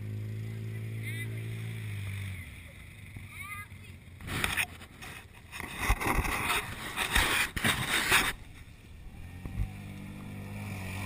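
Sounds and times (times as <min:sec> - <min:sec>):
off-road vehicle engine roar: 0:00.0 - 0:11.0.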